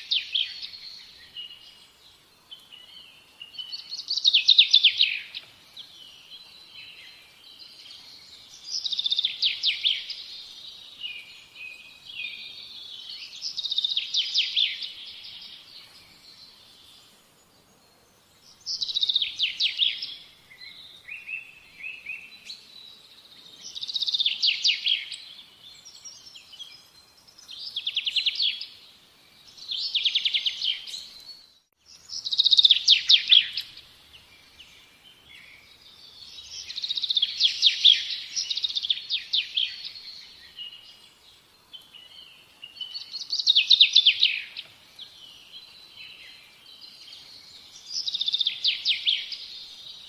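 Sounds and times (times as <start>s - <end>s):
songbird trilling chirps: 0.0s - 50.0s.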